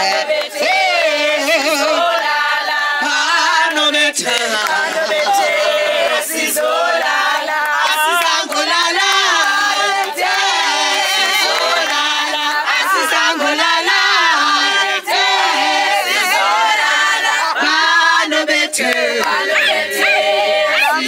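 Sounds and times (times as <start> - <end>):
crowd singing unaccompanied: 0.0 - 21.0.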